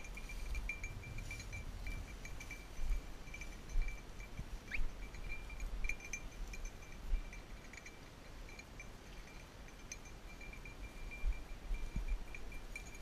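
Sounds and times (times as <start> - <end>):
dog collar bell tinkling: 0.0 - 13.0.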